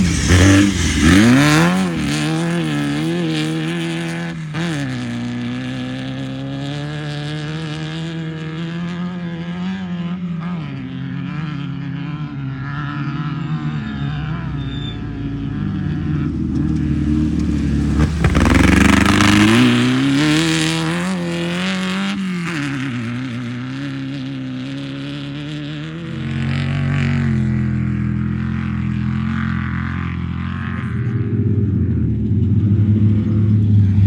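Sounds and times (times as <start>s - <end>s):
race vehicle engine revving: 0.0s - 31.5s.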